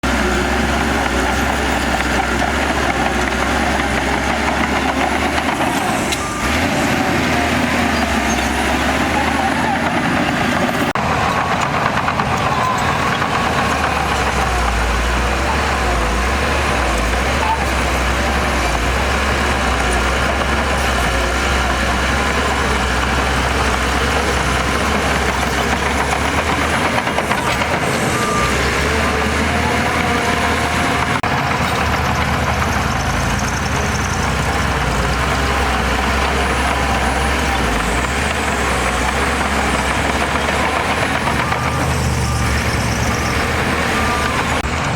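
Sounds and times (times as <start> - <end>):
heavy diesel machinery engine: 0.0 - 44.9.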